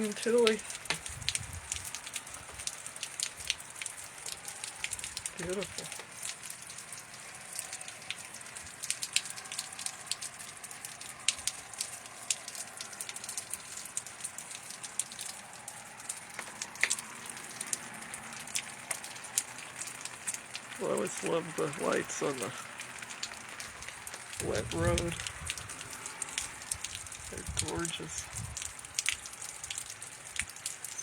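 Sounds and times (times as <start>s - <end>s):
rain hissing: 0.0s - 31.0s
raindrops ticking on surfaces: 0.0s - 31.0s.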